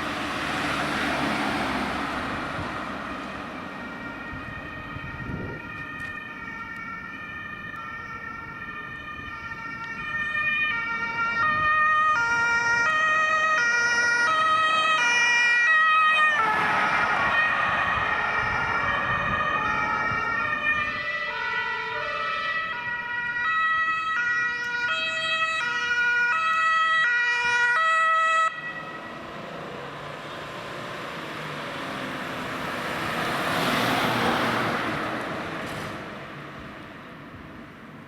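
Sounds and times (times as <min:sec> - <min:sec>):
two-tone emergency sirens: 0:00.0 - 0:38.0
vehicle noise: 0:00.0 - 0:38.0.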